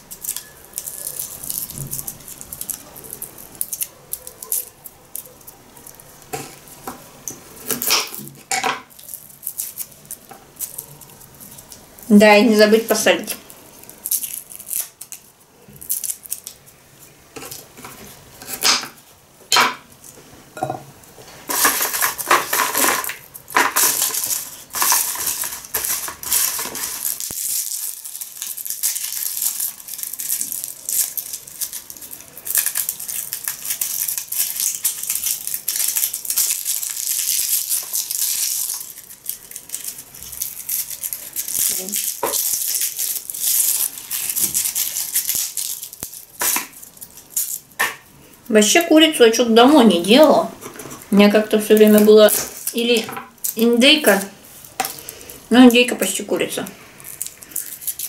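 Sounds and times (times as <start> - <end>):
garlic skins crackling: 0.0 - 58.0.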